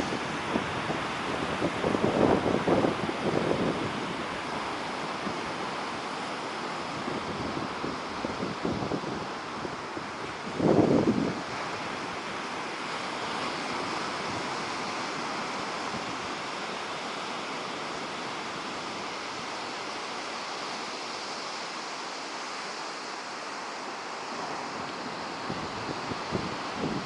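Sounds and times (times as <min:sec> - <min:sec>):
ocean surf on a beach: 0:00.0 - 0:27.0.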